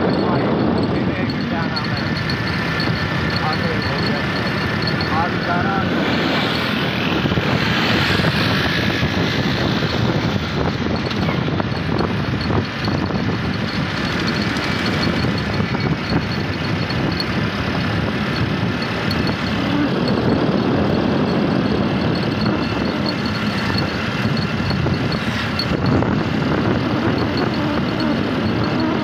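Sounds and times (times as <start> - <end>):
road noise: 0.0 - 29.0
vehicle engine rumble: 0.0 - 29.0.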